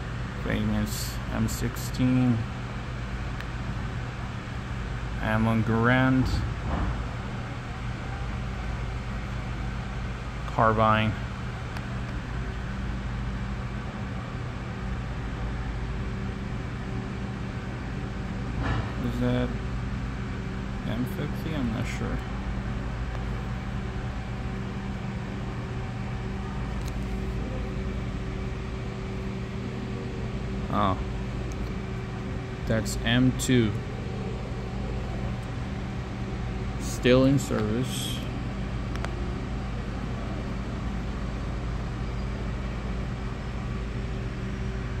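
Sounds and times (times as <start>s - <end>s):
ventilation hum: 0.0s - 45.0s.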